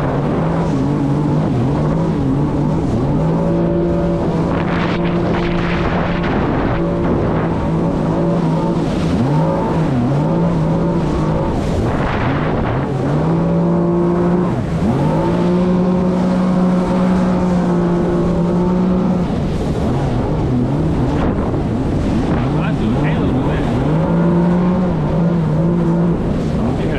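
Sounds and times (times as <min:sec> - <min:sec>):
jet ski engine running: 0:00.0 - 0:26.9.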